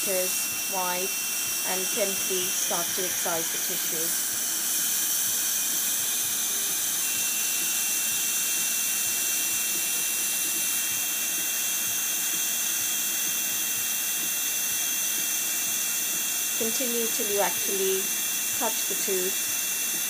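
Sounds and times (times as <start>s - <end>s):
dental suction hissing: 0.0s - 20.0s.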